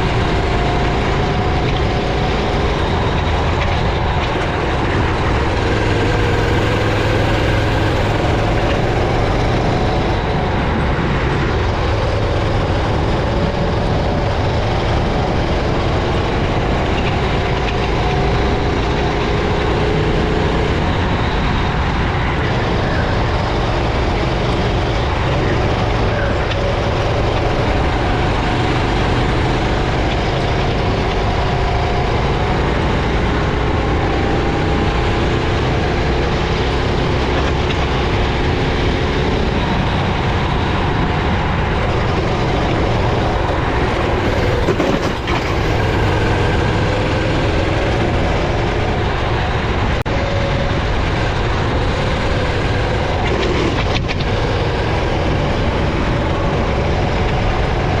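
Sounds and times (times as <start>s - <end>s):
heavy low rumble: 0.0s - 58.0s
kart engine running: 0.0s - 58.0s.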